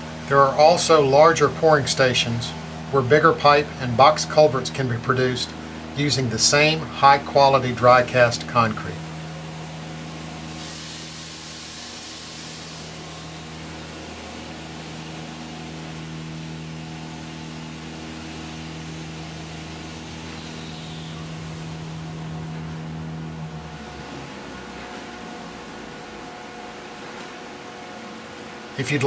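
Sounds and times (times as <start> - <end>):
crane motors humming: 0.0 - 29.0.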